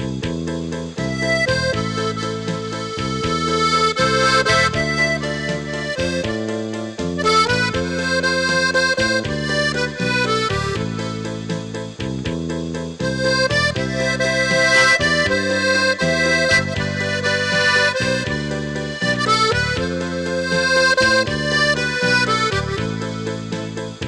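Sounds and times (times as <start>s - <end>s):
instrumental background music: 0.0s - 24.0s.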